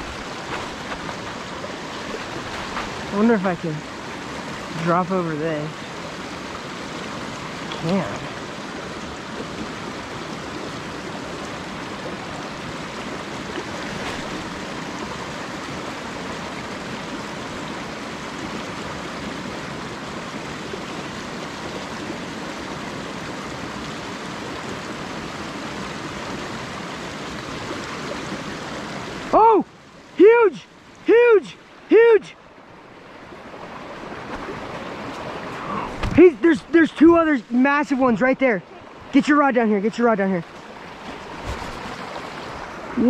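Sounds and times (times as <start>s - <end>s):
creek running: 0.0s - 43.0s.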